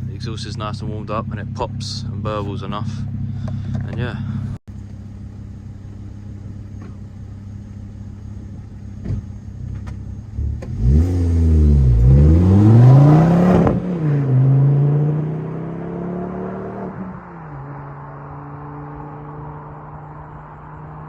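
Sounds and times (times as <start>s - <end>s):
car engine revving with raspy exhaust: 0.0s - 21.0s.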